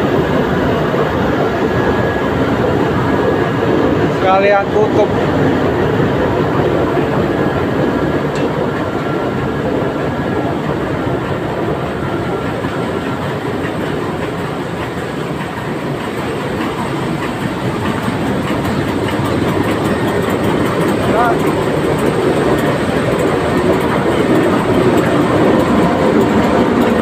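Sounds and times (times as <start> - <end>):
engine room machinery din: 0.0 - 27.0.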